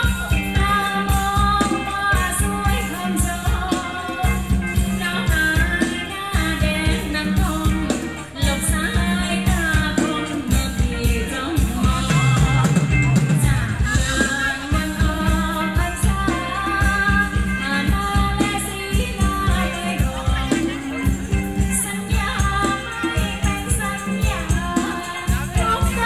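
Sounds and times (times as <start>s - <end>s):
driving drum beat: 0.0s - 26.0s
person singing: 0.0s - 26.0s.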